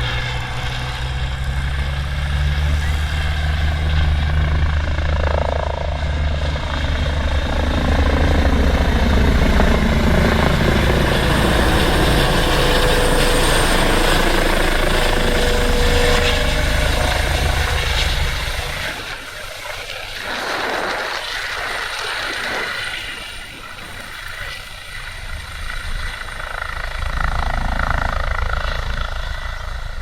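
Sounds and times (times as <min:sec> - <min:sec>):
helicopter rotor chop: 0:00.0 - 0:30.0
low turbine rumble: 0:00.0 - 0:30.0.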